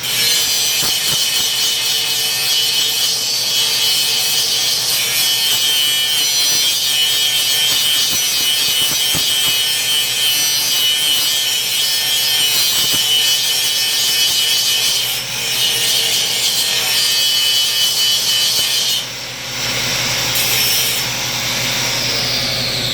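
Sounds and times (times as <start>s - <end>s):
bandsaw cutting metal: 0.0s - 22.9s
bandsaw running: 0.0s - 22.9s.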